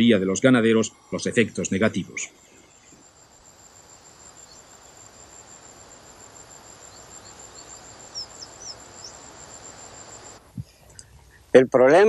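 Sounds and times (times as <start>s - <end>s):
cricket trill: 0.0s - 12.0s
faint hiss: 0.0s - 12.0s
high chirps: 0.8s - 11.5s.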